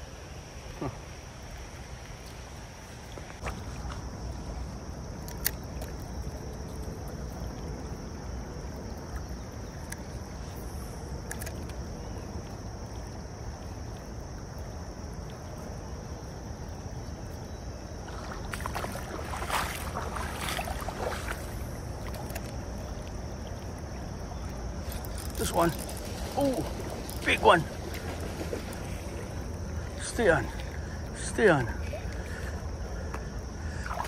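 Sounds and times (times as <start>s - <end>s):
creek water running: 0.0s - 34.0s.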